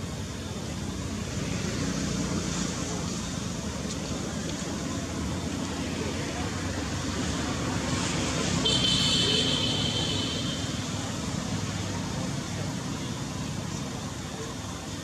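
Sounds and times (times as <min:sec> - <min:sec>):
motor vehicle rumble and hiss: 0:00.0 - 0:15.0.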